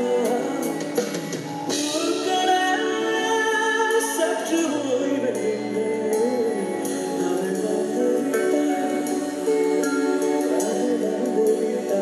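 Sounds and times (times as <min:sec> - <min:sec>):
band accompaniment: 0:00.0 - 0:12.0
man singing into a microphone: 0:00.0 - 0:12.0.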